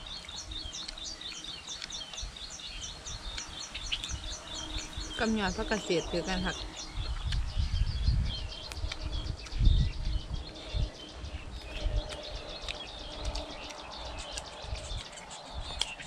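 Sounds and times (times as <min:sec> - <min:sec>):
small birds chirping: 0:00.0 - 0:16.0
low rumbling on microphone: 0:02.2 - 0:16.0.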